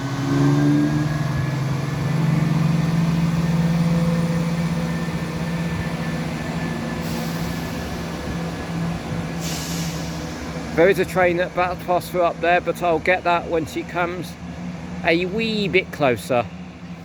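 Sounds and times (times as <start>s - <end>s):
train diesel engines humming: 0.0s - 17.0s.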